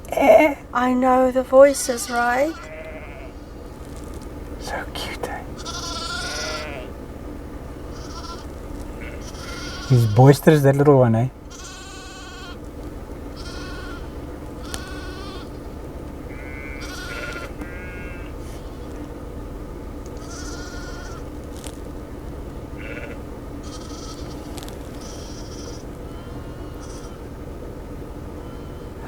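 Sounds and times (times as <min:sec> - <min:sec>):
steady low hum: 0:00.0 - 0:29.0
goats and lambs bleating: 0:01.6 - 0:29.0.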